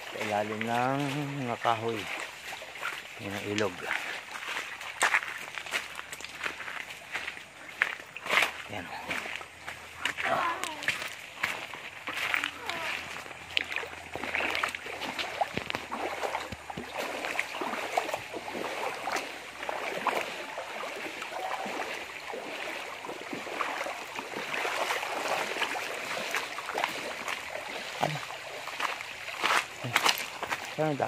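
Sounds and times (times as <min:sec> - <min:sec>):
small river flowing: 0:00.0 - 0:31.0.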